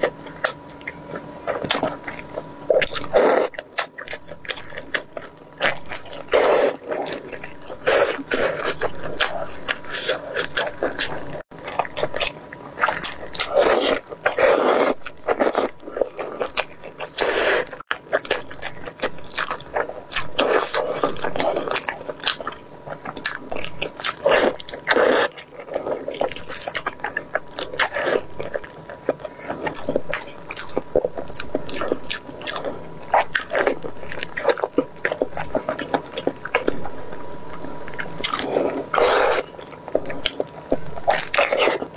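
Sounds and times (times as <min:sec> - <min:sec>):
chewing and biting meat: 0:00.0 - 0:41.9.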